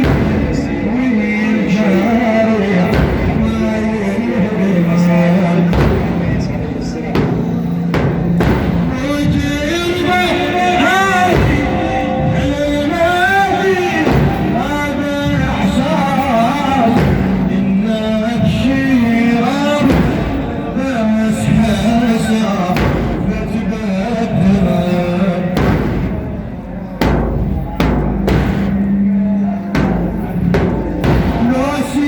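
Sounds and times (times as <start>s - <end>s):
man chanting a religious lament: 0.0s - 32.0s
percussion hits: 0.0s - 32.0s.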